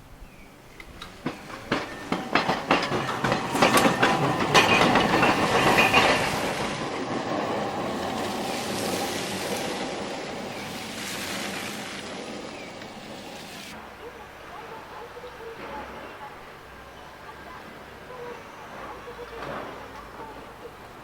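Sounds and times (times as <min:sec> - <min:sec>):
tram rumble: 0:00.0 - 0:21.0
tram wheels clacking over rails: 0:00.5 - 0:21.0.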